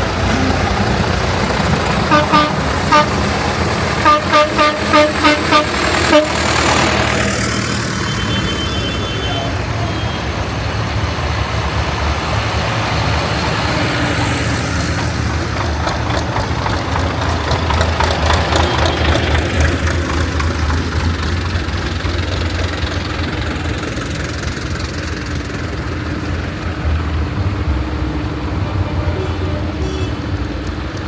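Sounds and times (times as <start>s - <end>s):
tractor diesel engines humming: 0.0s - 31.0s
tractor passing with rattle: 0.0s - 31.0s.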